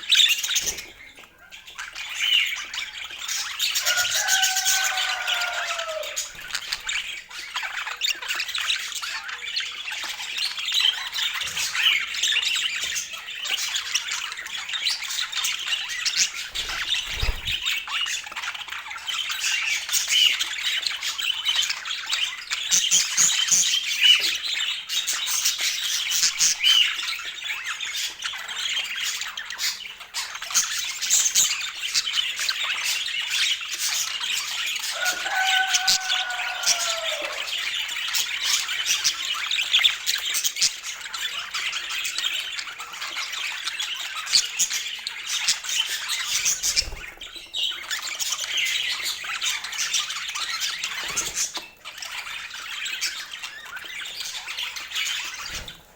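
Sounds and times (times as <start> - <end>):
budgerigars chattering and chirping: 0.0 - 55.9.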